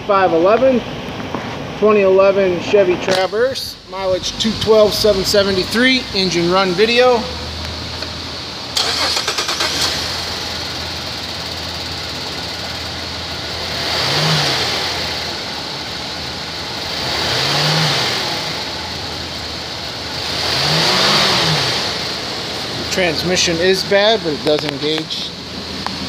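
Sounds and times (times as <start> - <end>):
car engine starting and revving: 3.1 - 26.0.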